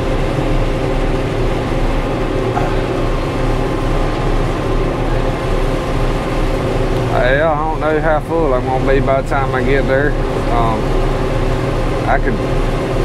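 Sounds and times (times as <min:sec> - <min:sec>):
engine and machinery hum: 0:00.0 - 0:13.0.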